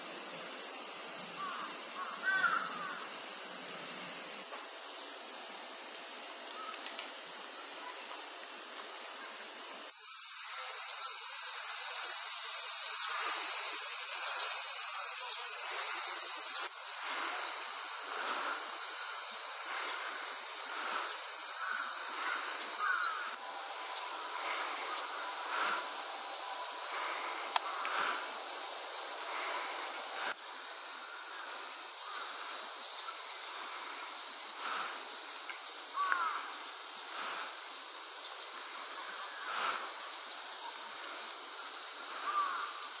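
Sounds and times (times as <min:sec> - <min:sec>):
cicadas droning: 0:00.0 - 0:43.0.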